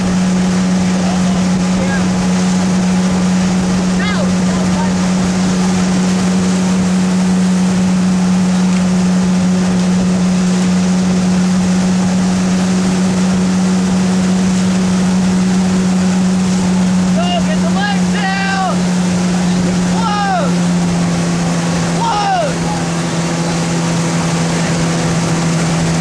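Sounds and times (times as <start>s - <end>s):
outboard motor drone: 0.0s - 26.0s
water wash: 0.0s - 26.0s.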